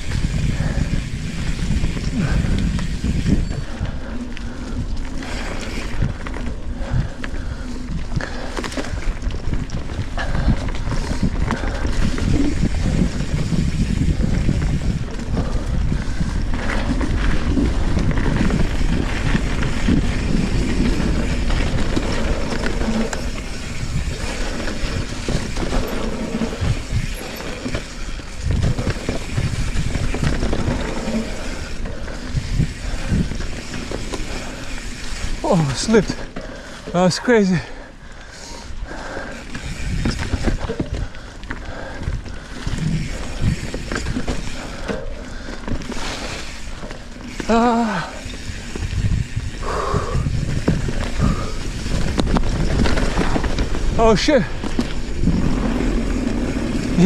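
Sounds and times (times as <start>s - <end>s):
bike knocking and rattling: 0.0s - 57.0s
bike tyres rumbling over dirt: 0.0s - 57.0s
wind rumbling on microphone: 0.0s - 57.0s.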